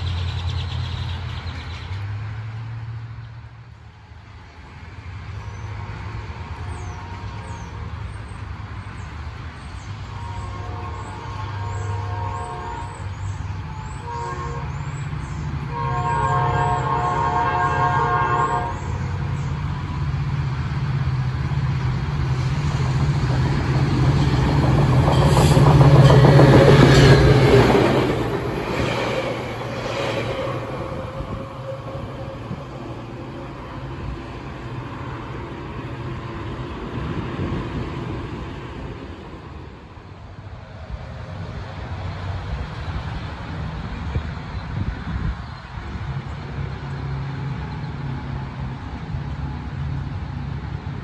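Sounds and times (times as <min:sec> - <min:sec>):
locomotive engine hum: 0:00.0 - 0:51.0.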